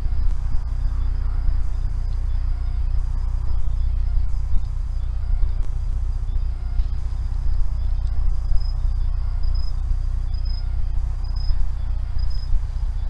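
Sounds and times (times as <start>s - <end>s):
insect chirping: 0.0s - 13.0s
steady low rumble: 0.0s - 13.0s.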